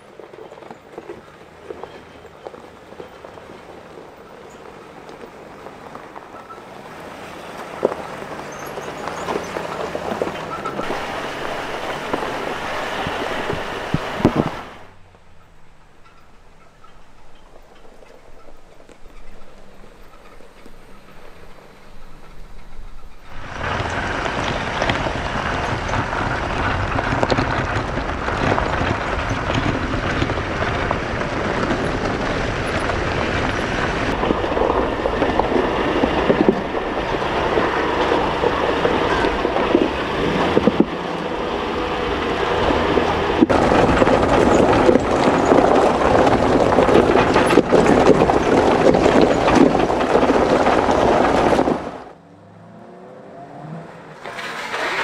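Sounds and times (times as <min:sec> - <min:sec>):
wind buffeting microphone: 0:00.0 - 0:52.2
pickup truck road noise: 0:00.0 - 0:55.0.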